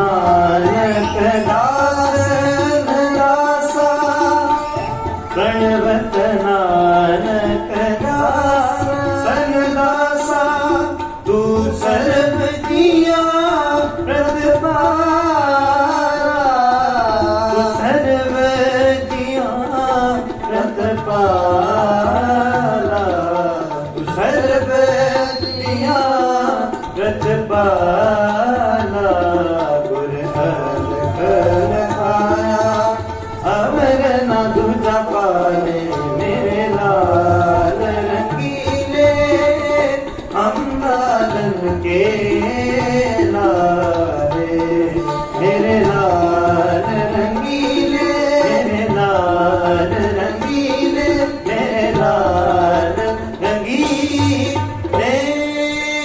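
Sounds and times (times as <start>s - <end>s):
sarangi melody: 0.0s - 56.0s
tabla rhythm: 0.0s - 56.0s.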